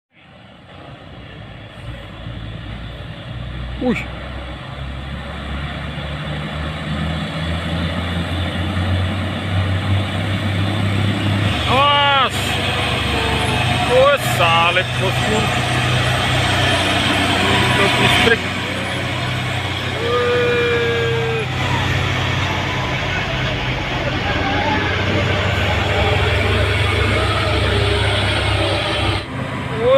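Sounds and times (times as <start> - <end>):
road noise: 0.1 - 29.9
diesel truck engine labouring: 0.2 - 29.9.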